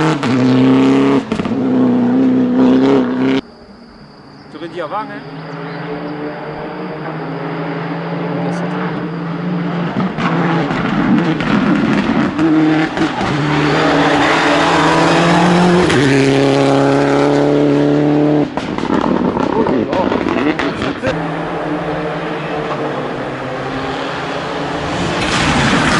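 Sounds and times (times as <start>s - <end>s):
rally car engine at full throttle: 0.0s - 3.6s, 5.2s - 25.9s.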